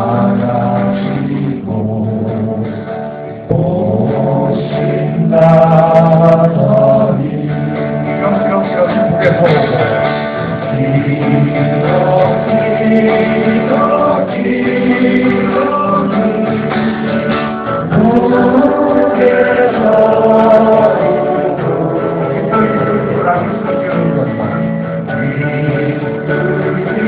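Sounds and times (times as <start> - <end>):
group of people singing: 0.0 - 27.0
guitar accompaniment: 0.0 - 27.0.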